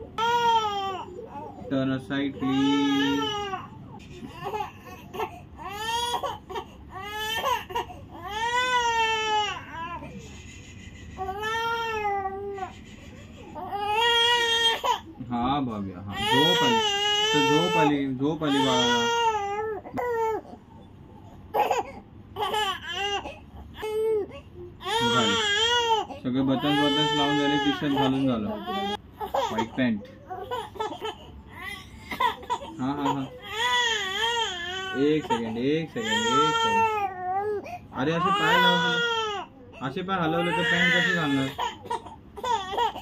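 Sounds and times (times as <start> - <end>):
infant crying: 0.0 - 15.1, 16.1 - 20.6, 21.5 - 43.0.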